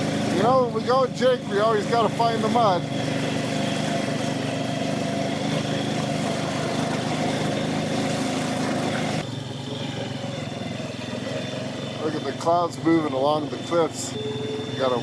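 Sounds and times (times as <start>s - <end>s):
atv engine running under load: 0.0s - 15.0s.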